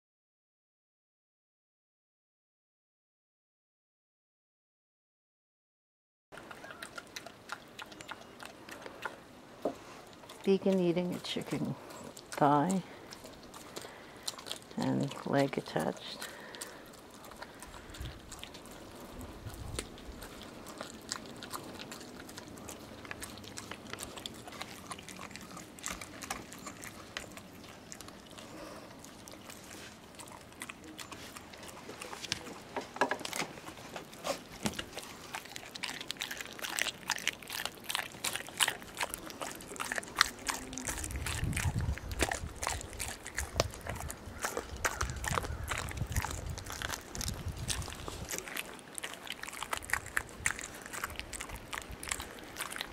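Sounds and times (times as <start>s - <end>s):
dog crunching bone: 6.4s - 52.9s
wet gnawing: 6.4s - 52.9s.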